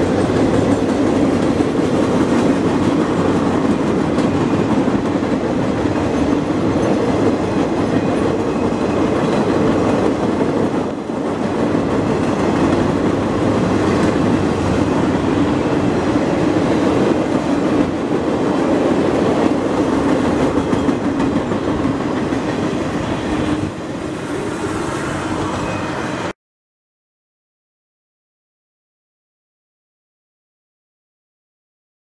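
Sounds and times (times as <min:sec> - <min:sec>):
steel wheels on rail: 0:00.0 - 0:26.3.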